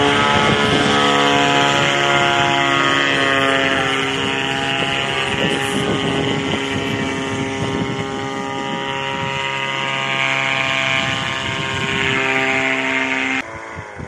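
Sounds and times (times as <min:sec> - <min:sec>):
paramotor engine and propeller: 0:00.0 - 0:14.0
wind gusting on microphone: 0:00.0 - 0:14.0.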